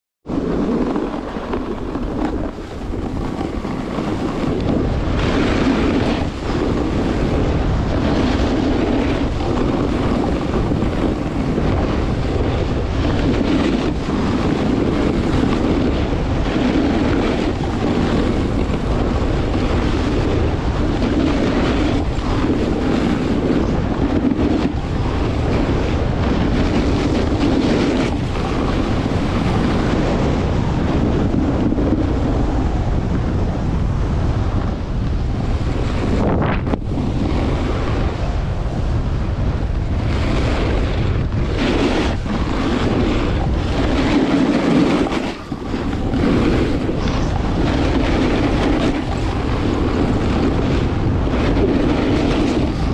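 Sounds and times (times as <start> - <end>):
wind rushing over microphone: 0.2 - 52.9
skis scraping on snow: 0.3 - 32.7, 33.4 - 52.9.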